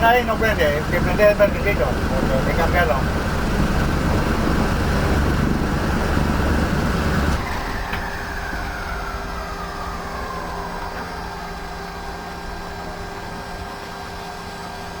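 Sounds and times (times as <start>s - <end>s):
electrical hum: 0.0s - 15.0s
whine winding down: 0.0s - 15.0s.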